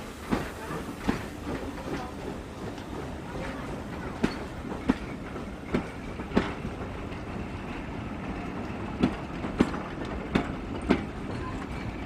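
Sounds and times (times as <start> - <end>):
train wheels rumbling: 0.0 - 12.0
wheels clicking over rail joints: 0.2 - 12.0.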